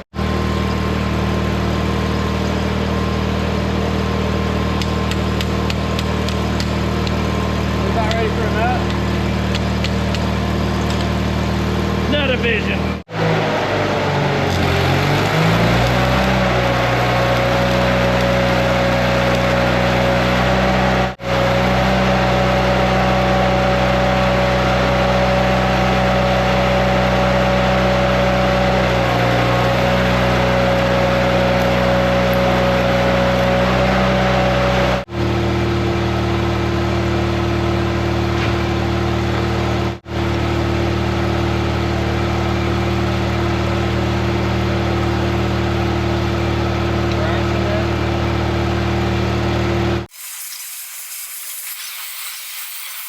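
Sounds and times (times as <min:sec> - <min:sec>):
heavy diesel dozer engine running: 0:00.2 - 0:50.1.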